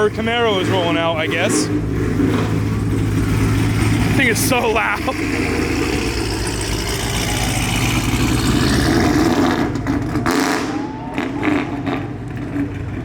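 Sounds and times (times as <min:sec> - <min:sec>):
loud car engine driving off: 0:00.0 - 0:13.0.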